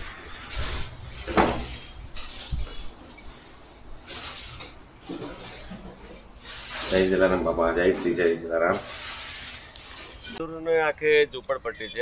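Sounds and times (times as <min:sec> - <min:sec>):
plastic bags rustling: 0:00.1 - 0:10.4.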